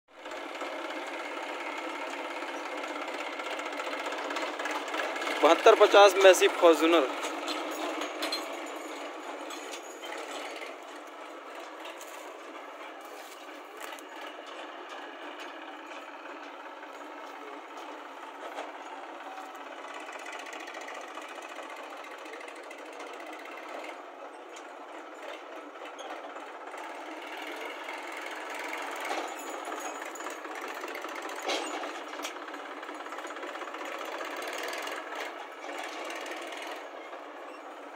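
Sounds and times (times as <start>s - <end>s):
diesel engines running: 0.1s - 37.9s.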